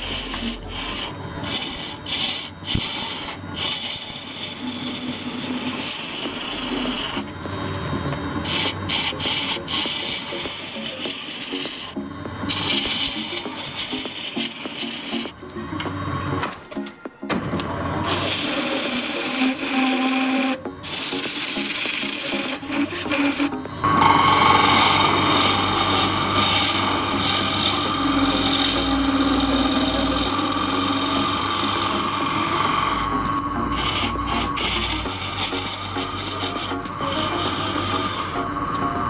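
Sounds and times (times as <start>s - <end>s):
gouge scraping spinning wood: 0.0s - 16.2s, 17.6s - 38.9s
lathe hum: 0.0s - 39.0s.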